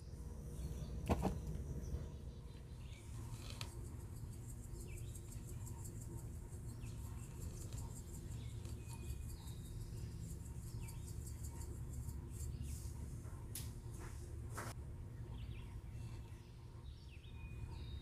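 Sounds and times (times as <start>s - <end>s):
faint bird chirps: 0.0s - 12.9s, 15.3s - 18.0s.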